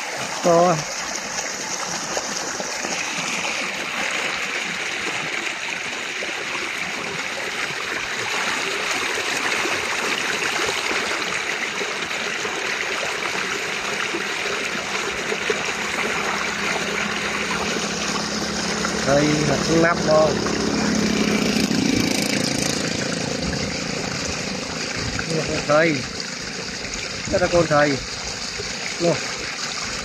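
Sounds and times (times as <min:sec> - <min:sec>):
water rushing through channel: 0:00.0 - 0:30.0.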